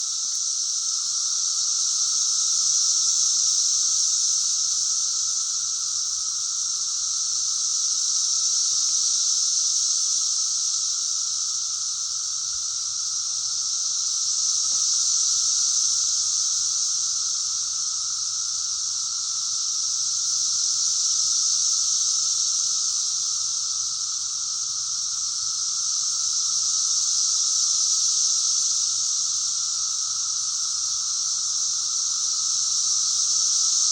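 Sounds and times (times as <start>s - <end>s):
cicadas chorus: 0.0s - 33.9s.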